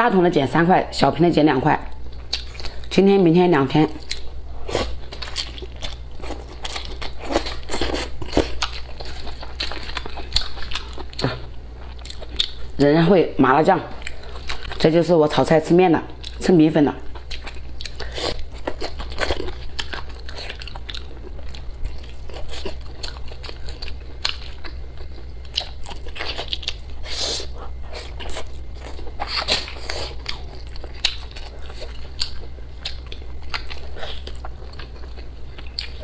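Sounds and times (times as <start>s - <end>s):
person chewing crunchy food: 2.0s - 2.9s, 4.0s - 12.8s, 13.9s - 14.8s, 16.2s - 16.4s, 17.0s - 36.0s.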